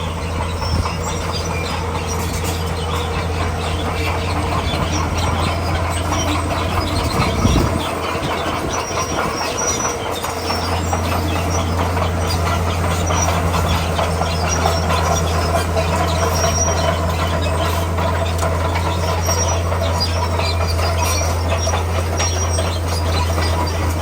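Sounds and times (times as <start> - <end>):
bulldozer diesel engine droning: 0.0 - 24.0
steel tracks clattering and squealing: 0.0 - 24.0.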